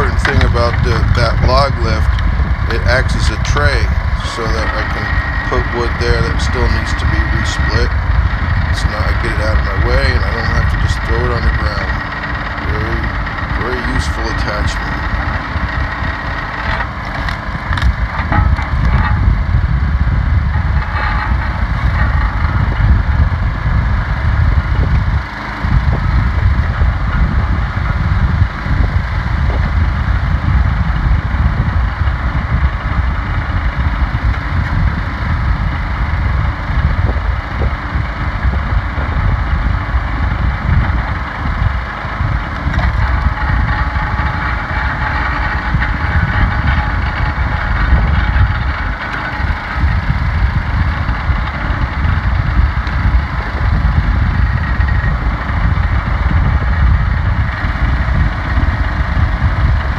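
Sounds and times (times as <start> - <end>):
log splitter engine running: 0.0 - 59.9.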